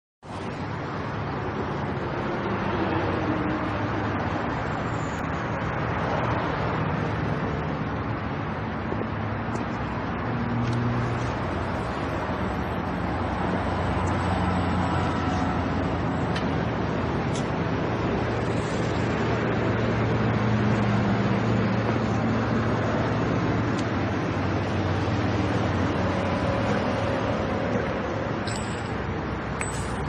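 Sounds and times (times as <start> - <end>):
vehicles passing on road: 0.2 - 30.0.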